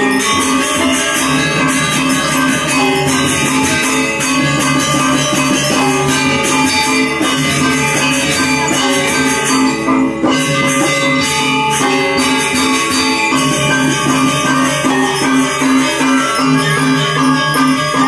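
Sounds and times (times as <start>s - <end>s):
gamelan metallophones and gongs: 0.0s - 18.0s.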